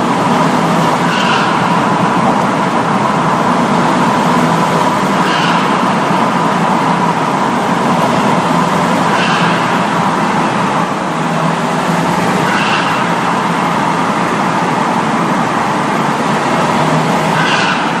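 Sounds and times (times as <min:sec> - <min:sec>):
car exhaust drone: 0:00.0 - 0:18.0.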